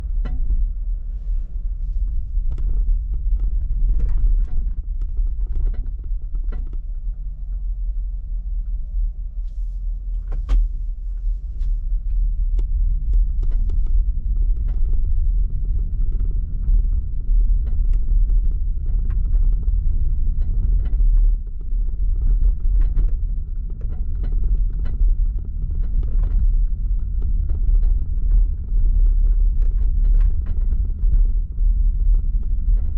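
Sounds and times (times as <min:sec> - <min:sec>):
low rumble: 0:00.0 - 0:32.9.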